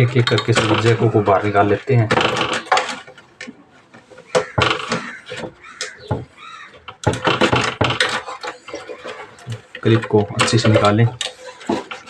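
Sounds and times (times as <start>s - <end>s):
clicking and rattling: 0.0s - 12.0s
plastic squeaking: 0.0s - 12.0s.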